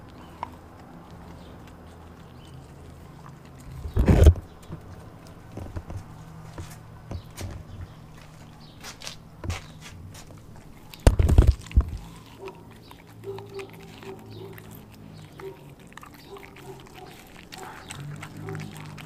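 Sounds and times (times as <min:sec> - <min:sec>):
dog chewing a bone: 0:00.0 - 0:19.0.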